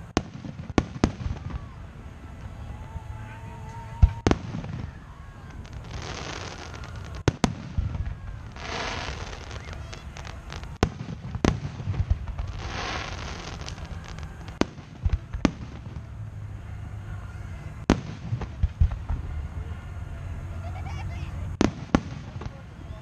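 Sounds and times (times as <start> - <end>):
fireworks booming: 0.0 - 23.0
low rumble: 0.0 - 23.0.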